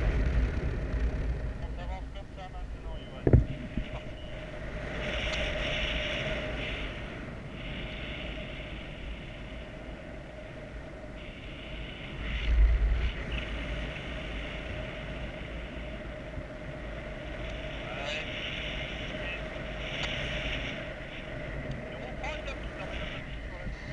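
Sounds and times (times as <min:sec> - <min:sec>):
wind buffeting microphone: 0:00.0 - 0:23.9
faint steady tone: 0:01.2 - 0:23.9.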